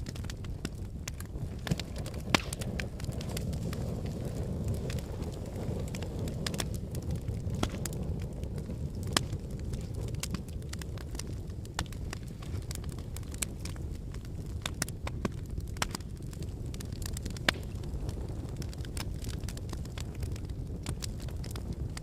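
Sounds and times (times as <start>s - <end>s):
logs crackling and popping: 0.0s - 22.0s
low rumble of flames: 0.0s - 22.0s.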